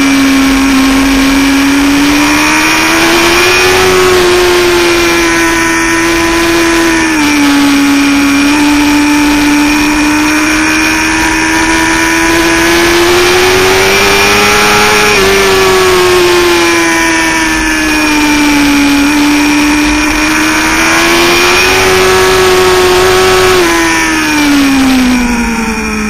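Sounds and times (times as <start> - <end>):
motorcycle engine running hard: 0.0 - 26.0
rush of noise: 0.0 - 26.0.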